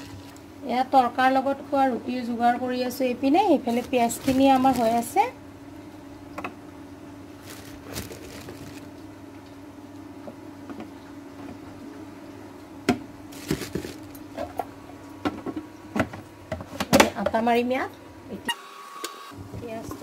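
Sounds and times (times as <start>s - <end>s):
steady low hum: 0.0s - 18.5s.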